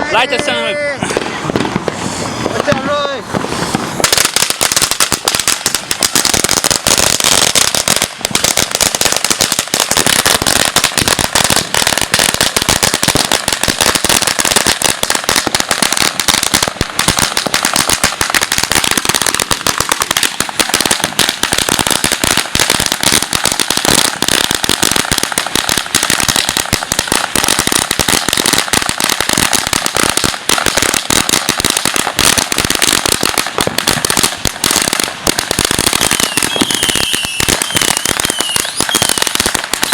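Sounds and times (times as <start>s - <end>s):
firecrackers popping: 0.0s - 39.9s.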